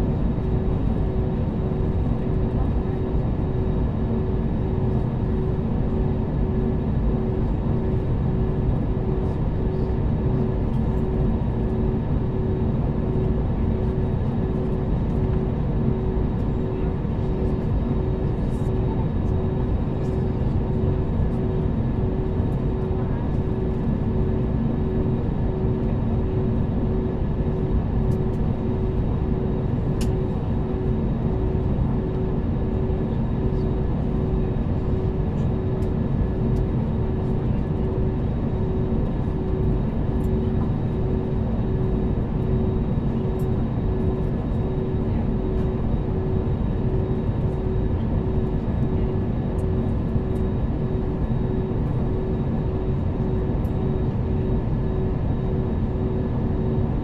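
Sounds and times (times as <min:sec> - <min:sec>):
airliner cabin engine roar: 0:00.0 - 0:57.0.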